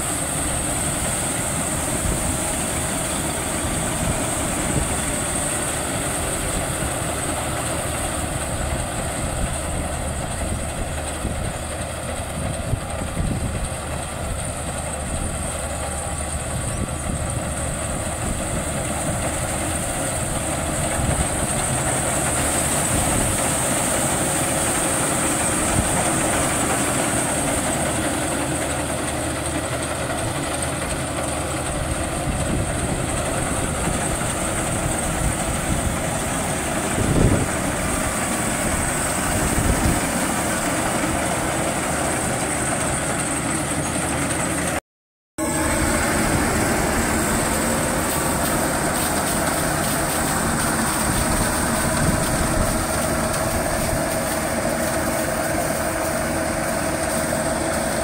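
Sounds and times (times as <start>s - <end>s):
diesel engine running under load: 0.0s - 44.8s, 45.4s - 58.0s.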